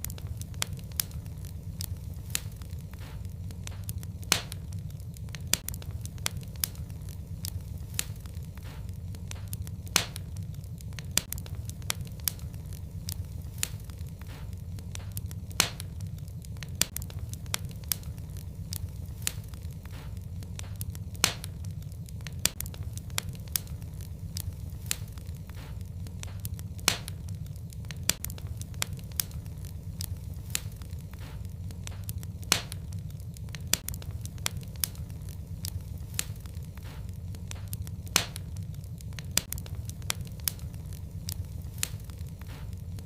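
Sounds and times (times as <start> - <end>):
fire crackles and pops: 0.0 - 43.0
wood fire rumbling: 0.0 - 43.0.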